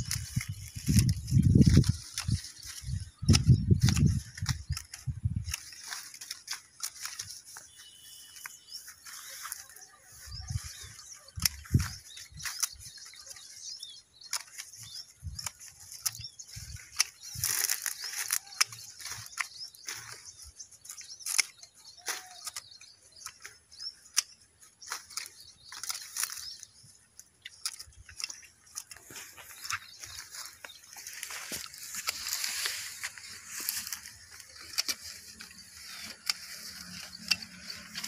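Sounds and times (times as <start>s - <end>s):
birds chirping faintly: 0.0s - 38.0s
leaves rustling: 0.0s - 38.0s
pruning shears snipping: 0.0s - 38.0s.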